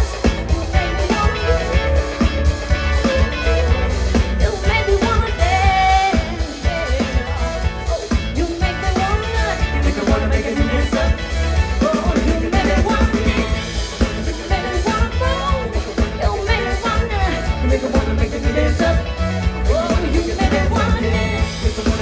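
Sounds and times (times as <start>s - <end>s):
live pop band playing: 0.0s - 22.0s.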